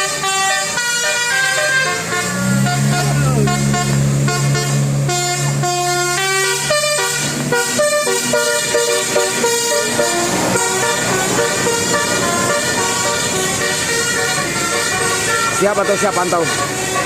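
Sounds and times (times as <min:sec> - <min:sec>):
bus horn playing a quick melody: 0:00.0 - 0:17.0
low steady horn tone: 0:00.0 - 0:17.0.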